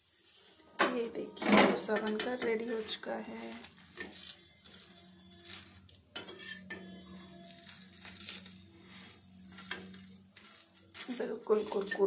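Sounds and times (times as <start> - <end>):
metal spatula scraping griddle: 0.2 - 12.0.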